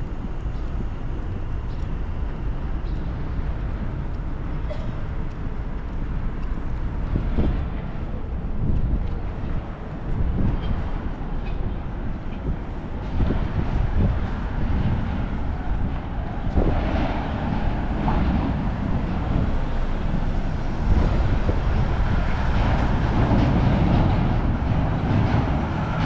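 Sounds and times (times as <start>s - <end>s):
heavy vehicles passing: 0.0s - 26.0s
street traffic rumble: 0.0s - 26.0s.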